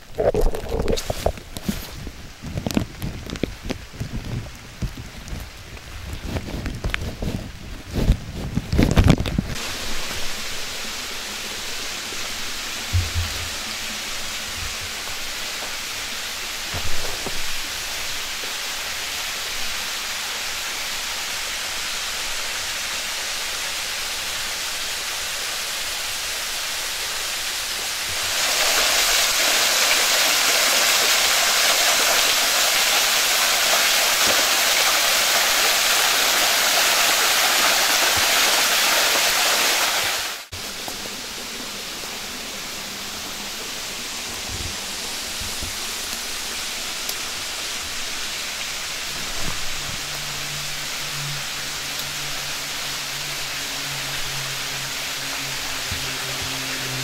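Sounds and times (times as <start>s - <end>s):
waterfall rushing: 9.6s - 57.0s.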